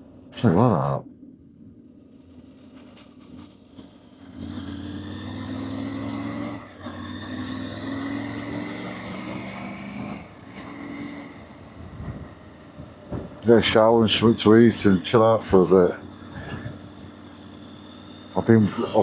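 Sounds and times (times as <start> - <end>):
road and wind noise: 0.0 - 19.0
motorcycle engine accelerating: 1.6 - 19.0.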